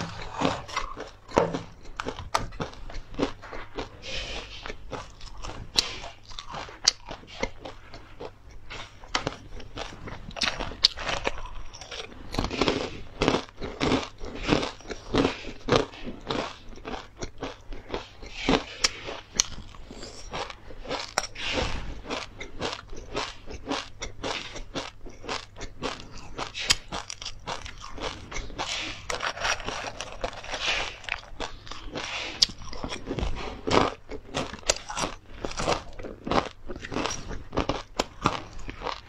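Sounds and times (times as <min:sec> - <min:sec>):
crunchy chewing: 0:00.0 - 0:39.0.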